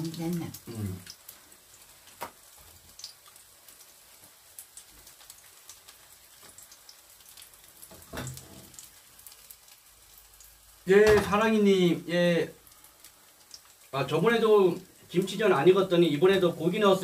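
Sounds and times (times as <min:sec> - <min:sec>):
pancake sizzling in oil: 0:00.0 - 0:17.0.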